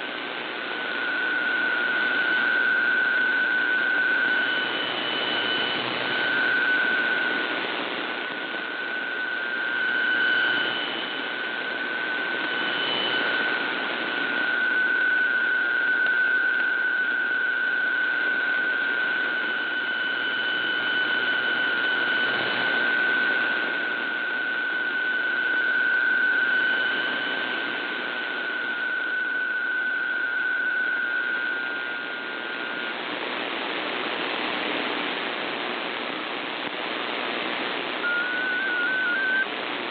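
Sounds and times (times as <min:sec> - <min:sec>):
radio static hiss: 0:00.0 - 0:39.9
steady mid-pitched data tone: 0:00.0 - 0:39.9.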